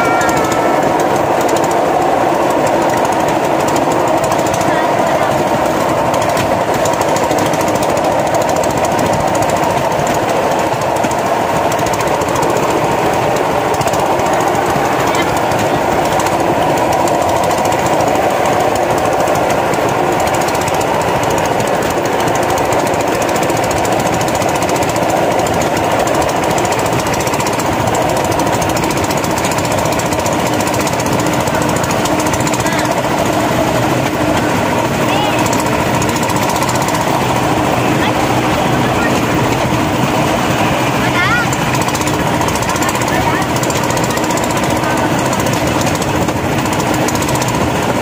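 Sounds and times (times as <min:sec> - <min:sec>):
rail trolley rattling on tracks: 0:00.0 - 0:48.0.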